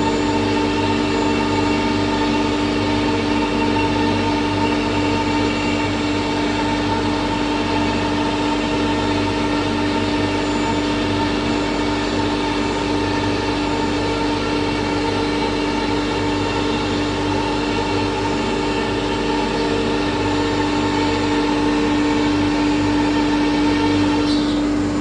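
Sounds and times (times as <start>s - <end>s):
router machine whining: 0.0s - 25.0s.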